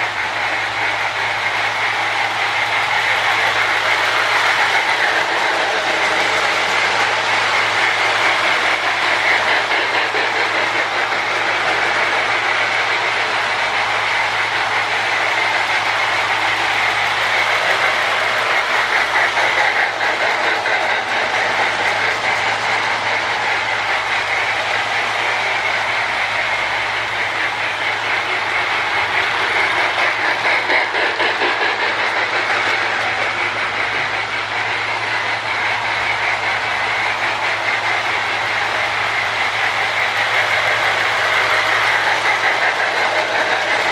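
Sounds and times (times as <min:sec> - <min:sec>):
toy train chuffing: 0:00.0 - 0:43.9
toy train motor and wheels: 0:00.0 - 0:43.9.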